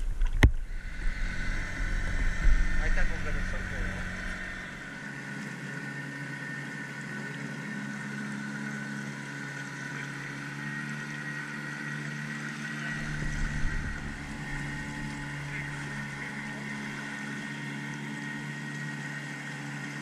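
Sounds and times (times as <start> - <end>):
outboard motor humming: 0.0 - 20.0
water rushing along hull: 0.0 - 20.0.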